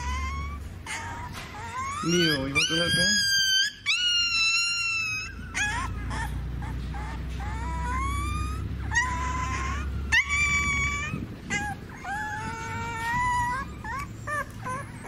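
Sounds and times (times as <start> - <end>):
puppy whining and crying: 0.0 - 15.0.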